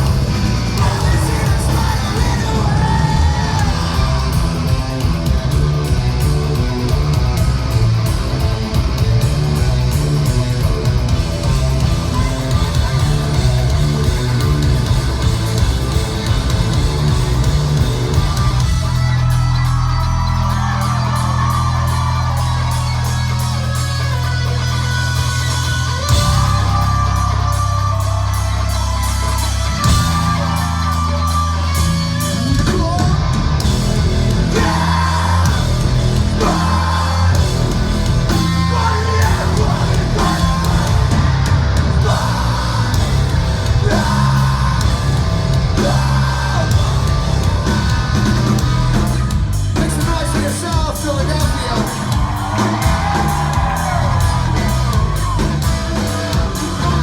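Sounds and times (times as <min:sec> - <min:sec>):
bending lead guitar line: 0:00.0 - 0:57.0
rock band playing live: 0:00.0 - 0:57.0.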